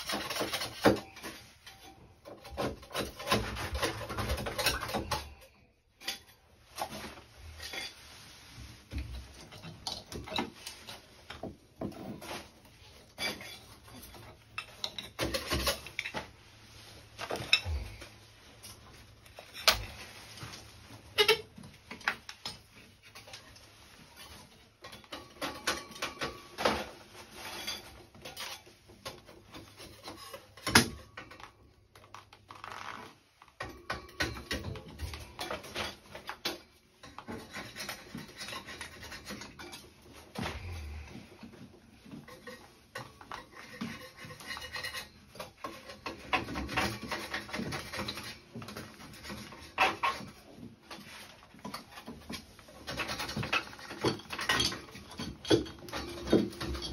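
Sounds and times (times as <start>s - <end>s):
hand tools scraping on tiles: 0.0s - 31.0s, 33.1s - 56.9s.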